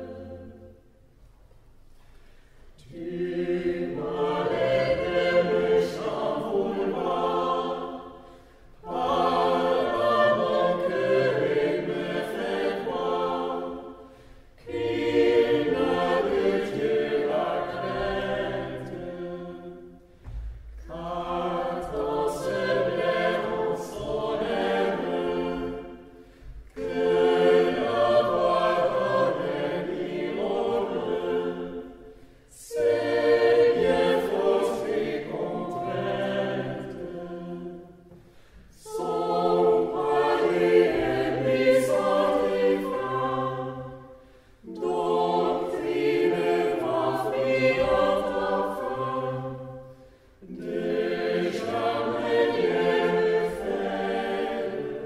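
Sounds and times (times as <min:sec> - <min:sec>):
choir singing a cappella: 0:00.0 - 0:01.0, 0:02.0 - 0:55.0.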